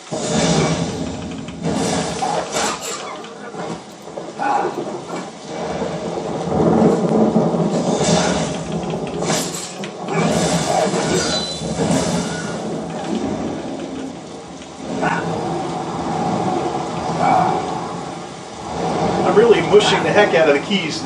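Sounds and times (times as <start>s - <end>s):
game thunderstorm: 0.0s - 21.0s.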